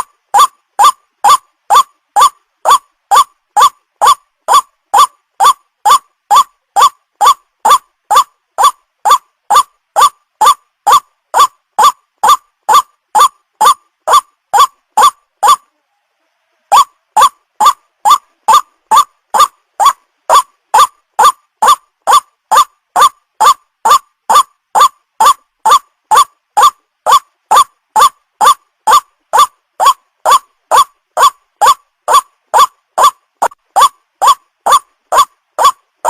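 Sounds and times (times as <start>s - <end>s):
waterhen calls rising in pitch: 0.0s - 15.7s, 16.6s - 35.8s.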